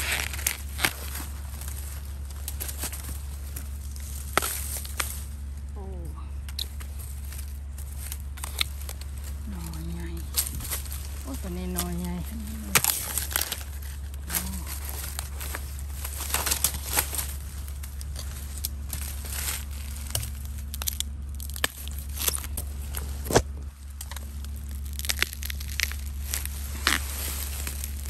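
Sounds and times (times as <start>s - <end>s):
dry twigs snapping: 0.0s - 28.0s
footsteps crunching dry leaves: 0.0s - 28.0s
steady low hum: 0.0s - 28.0s.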